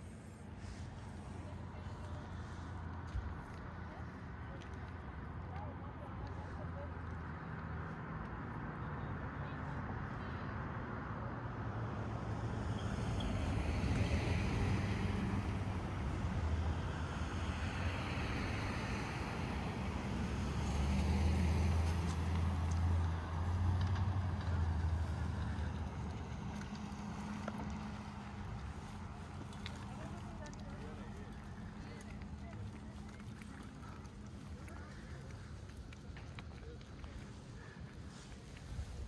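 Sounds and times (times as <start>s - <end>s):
vehicles passing: 0.0s - 39.0s.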